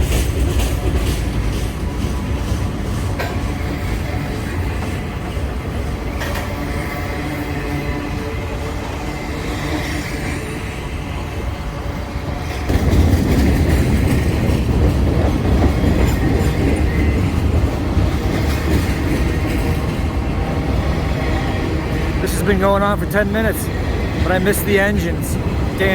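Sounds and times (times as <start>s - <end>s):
freight train cars rumbling on rails: 0.0s - 25.9s.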